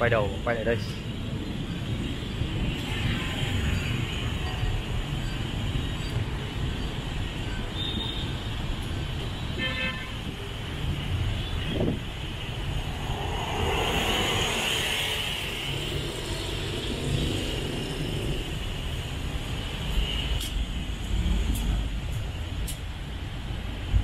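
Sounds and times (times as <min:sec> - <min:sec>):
traffic passing: 0:00.0 - 0:24.0.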